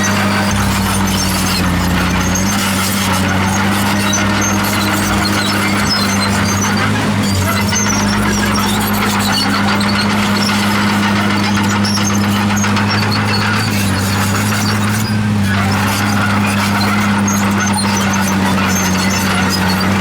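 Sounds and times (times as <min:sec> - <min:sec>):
bulldozer diesel engine: 0:00.0 - 0:20.0
machine squealing and grinding: 0:00.0 - 0:20.0.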